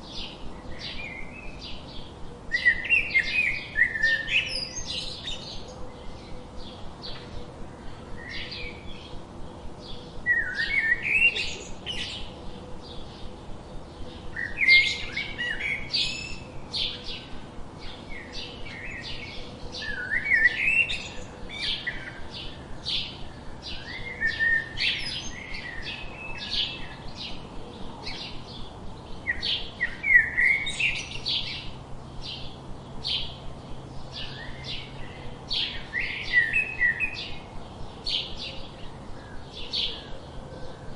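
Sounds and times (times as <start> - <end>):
songbirds chirping: 0.0 - 40.9
warbling bird song: 0.0 - 40.9.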